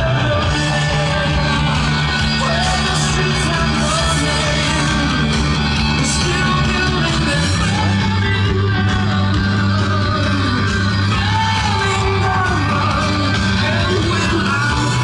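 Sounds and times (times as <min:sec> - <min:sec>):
rock music with guitar and bass: 0:00.0 - 0:15.0.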